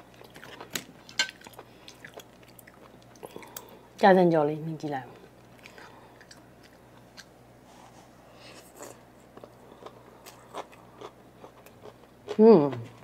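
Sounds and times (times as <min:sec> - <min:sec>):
soft chewing: 0:00.0 - 0:04.0, 0:05.0 - 0:13.0.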